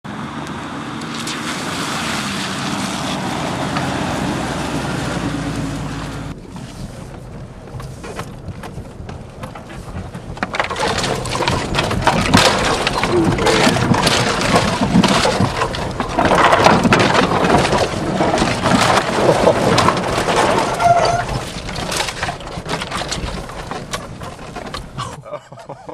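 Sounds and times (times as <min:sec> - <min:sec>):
branches scraping against vehicle: 0:01.0 - 0:25.2.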